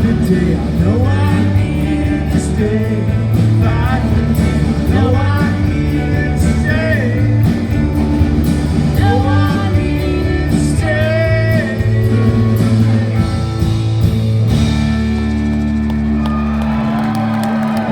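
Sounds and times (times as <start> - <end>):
rock band playing live: 0.0 - 17.9.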